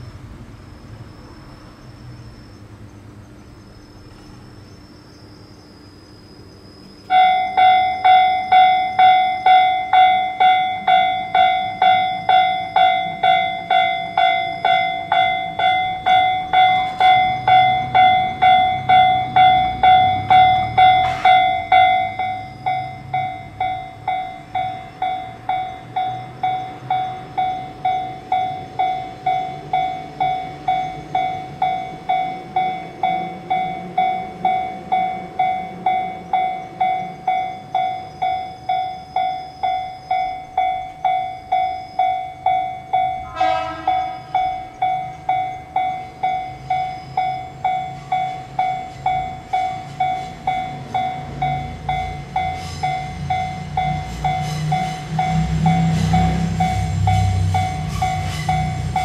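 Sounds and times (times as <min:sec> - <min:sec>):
approaching electric train rumble: 0:00.0 - 0:59.0
level crossing warning bell: 0:07.0 - 0:59.0.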